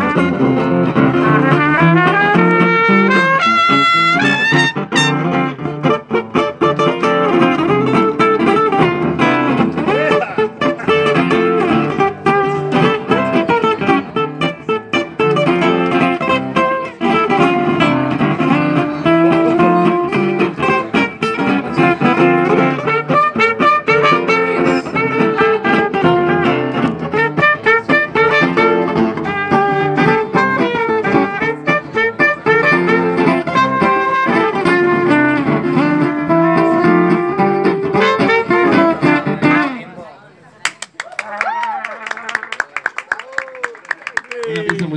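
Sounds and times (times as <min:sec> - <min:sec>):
trumpet melody: 0:00.0 - 0:39.6
acoustic guitar strumming: 0:00.0 - 0:40.0.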